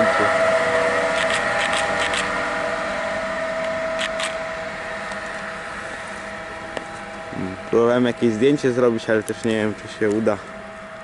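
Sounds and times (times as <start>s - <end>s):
electric locomotive hum: 0.0s - 11.0s.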